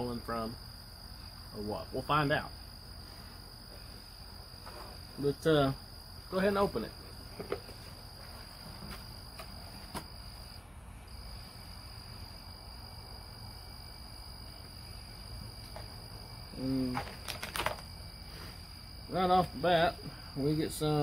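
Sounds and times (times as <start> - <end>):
cricket trilling: 0.0 - 21.0.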